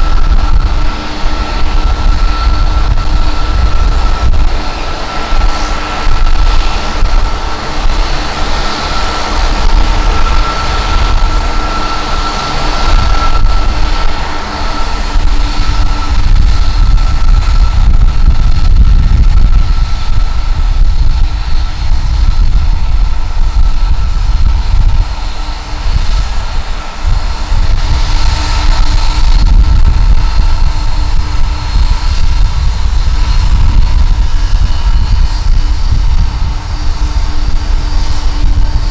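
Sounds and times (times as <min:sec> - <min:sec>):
jet engines whining: 0:00.0 - 0:38.9
wind on microphone: 0:00.0 - 0:38.9.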